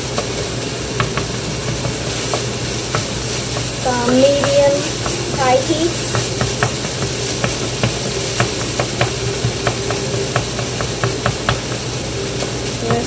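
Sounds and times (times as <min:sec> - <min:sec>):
chicken and rice sizzling in pan: 0:00.0 - 0:13.0
spatula tapping and scraping pan: 0:01.0 - 0:12.0.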